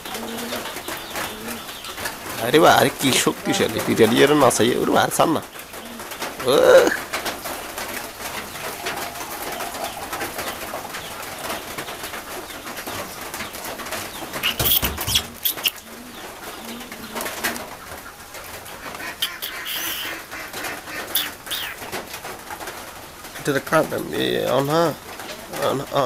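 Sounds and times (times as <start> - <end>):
birds cooing: 0.0 - 26.0.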